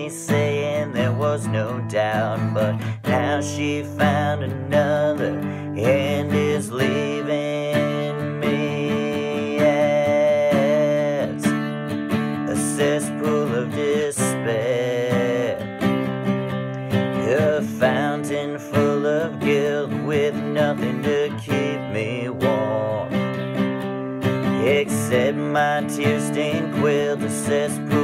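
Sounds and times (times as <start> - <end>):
bending lead guitar melody: 0.0 - 28.0
strummed acoustic guitar: 0.0 - 28.0.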